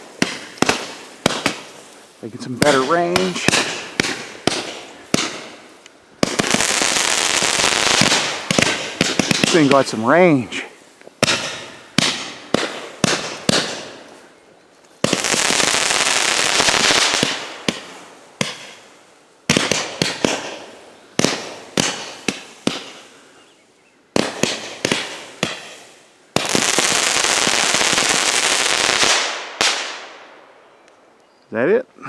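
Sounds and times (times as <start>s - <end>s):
fireworks bangs: 0.0s - 14.2s, 15.0s - 23.2s, 24.1s - 30.5s
dense rush of fireworks: 0.0s - 14.3s, 15.0s - 23.4s, 24.1s - 30.3s.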